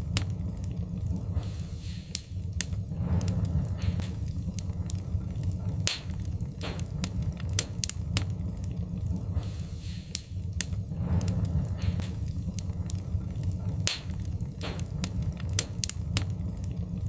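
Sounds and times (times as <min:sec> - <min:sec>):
fire hissing: 0:00.0 - 0:17.0
low rumble of flames: 0:00.0 - 0:17.0
wood fire crackling and popping: 0:00.0 - 0:17.0.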